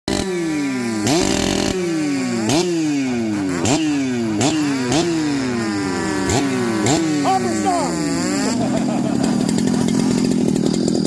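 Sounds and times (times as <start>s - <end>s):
chainsaw revving: 0.1s - 11.0s.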